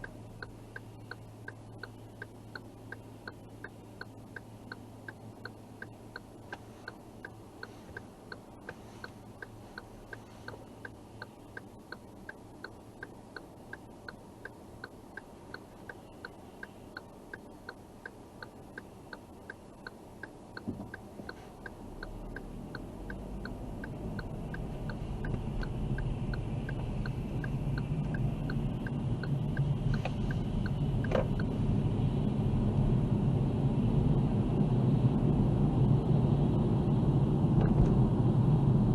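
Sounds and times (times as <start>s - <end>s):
turn signal clicking: 0.0s - 31.6s
car engine and tyre rumble: 0.0s - 38.9s.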